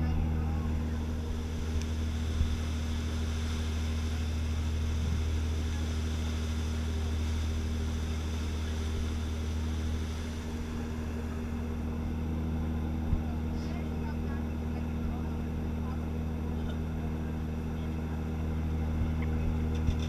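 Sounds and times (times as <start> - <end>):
ferry engine drone: 0.0 - 20.0
water churning along hull: 0.0 - 20.0.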